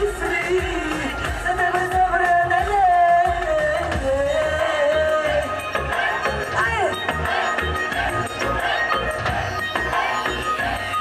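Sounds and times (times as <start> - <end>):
live music over pa system: 0.0 - 11.0.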